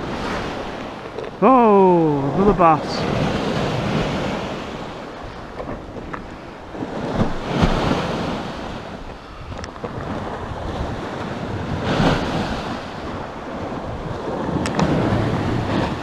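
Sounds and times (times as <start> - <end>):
wind buffeting microphone: 2.0 - 16.0.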